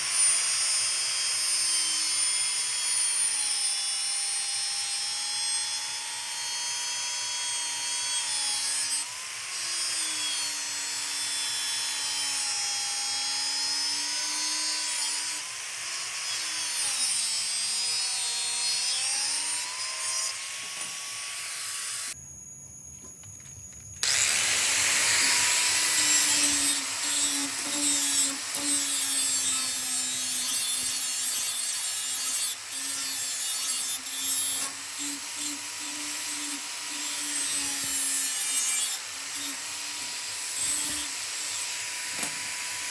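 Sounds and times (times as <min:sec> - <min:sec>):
small electric motor whining: 0:00.0 - 0:22.2, 0:24.0 - 0:42.9.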